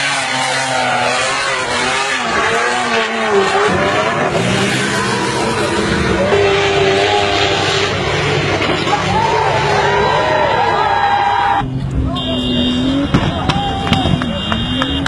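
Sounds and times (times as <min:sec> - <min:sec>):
engines revving hard: 0:00.0 - 0:15.0.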